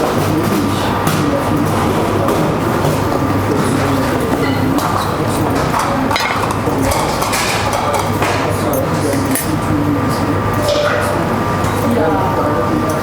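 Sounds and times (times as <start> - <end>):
dishes and utensils clinking: 0.0 - 13.0
kitchen background hum: 0.0 - 13.0.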